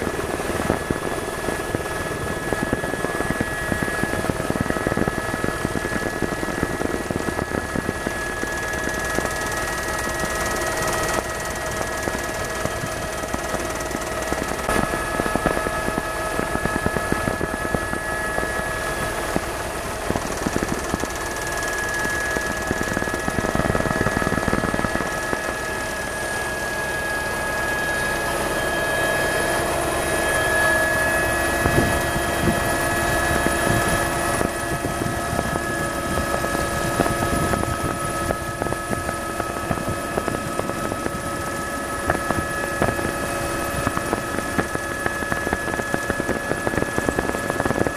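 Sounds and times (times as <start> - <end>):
helicopter engine and rotor: 0.0 - 47.9
steady whining tones: 0.0 - 47.9.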